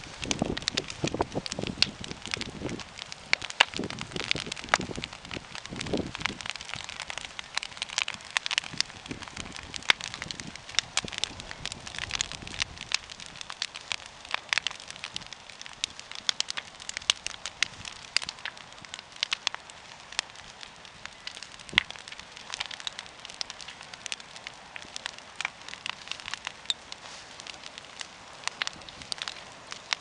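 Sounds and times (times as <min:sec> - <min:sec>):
bonfire crackling and popping: 0:00.0 - 0:30.0
hiss of flame: 0:00.0 - 0:30.0.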